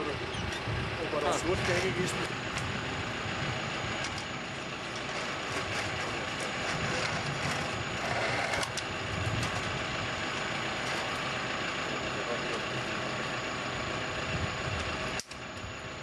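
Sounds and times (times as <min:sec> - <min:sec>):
drill rig engine idling: 0:00.0 - 0:16.0.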